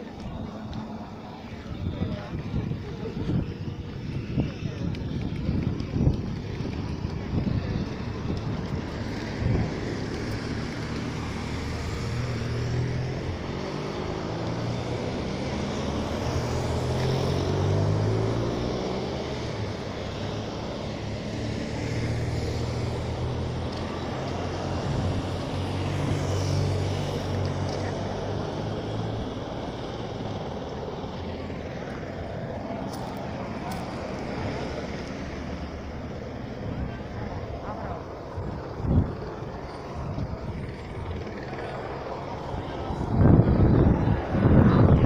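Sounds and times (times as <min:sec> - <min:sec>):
cars and vans driving past: 0:00.0 - 0:45.0.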